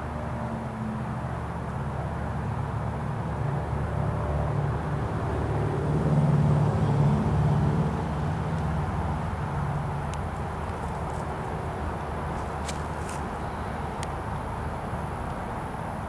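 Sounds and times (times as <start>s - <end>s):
propeller plane engine droning: 0.0s - 16.0s.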